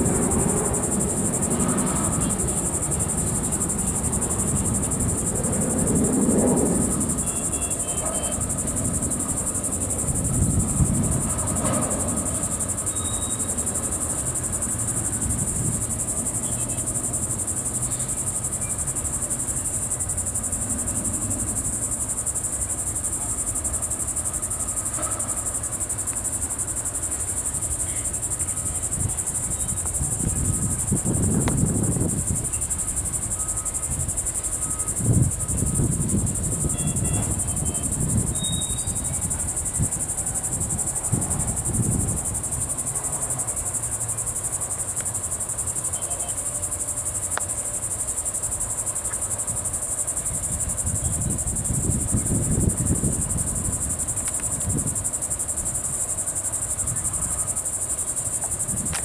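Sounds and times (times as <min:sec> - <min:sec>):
insects buzzing: 0:00.0 - 0:59.0.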